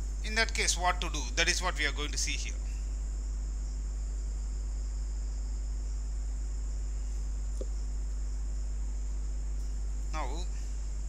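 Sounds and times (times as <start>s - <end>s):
electrical hum: 0.0s - 11.0s
faint high-pitched whine: 0.0s - 11.0s.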